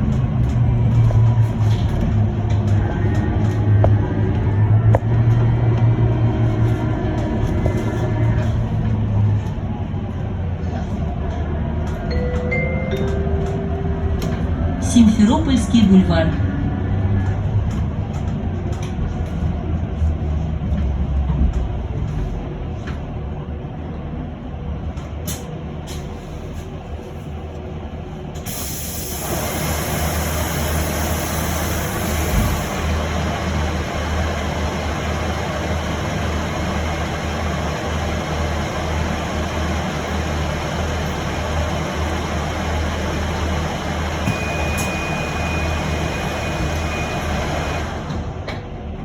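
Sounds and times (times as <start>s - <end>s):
electric bus humming and running: 0.0s - 49.0s.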